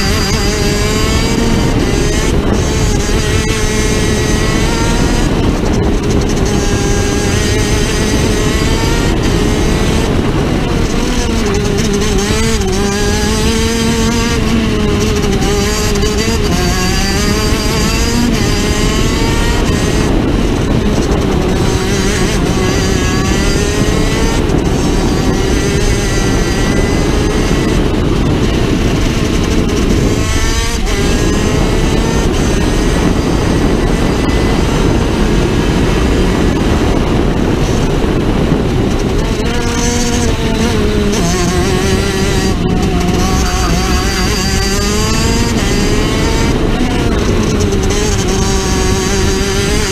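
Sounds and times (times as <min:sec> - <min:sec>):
kart engine revving: 0:00.0 - 0:49.9.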